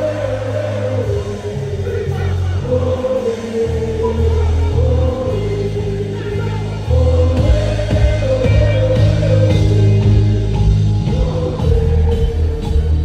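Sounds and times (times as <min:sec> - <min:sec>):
heavy bass beat: 0:00.0 - 0:13.0
person singing: 0:00.0 - 0:13.0.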